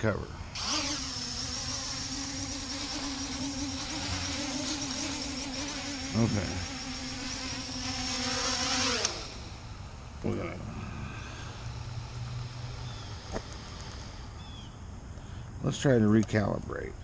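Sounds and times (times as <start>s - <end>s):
drone propellers buzzing: 0.3s - 14.7s.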